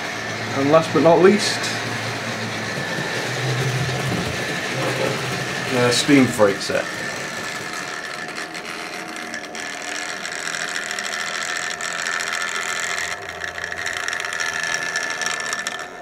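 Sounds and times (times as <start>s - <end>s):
model train motors whirring: 0.0s - 16.0s
wheels clicking on rail: 0.0s - 16.0s.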